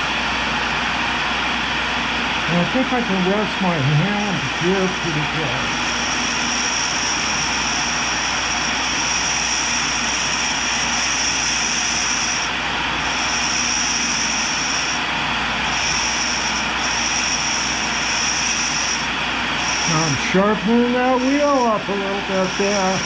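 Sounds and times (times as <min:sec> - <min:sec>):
thin high whine: 0:02.4 - 0:23.0
grinding wheel hissing: 0:02.5 - 0:23.0.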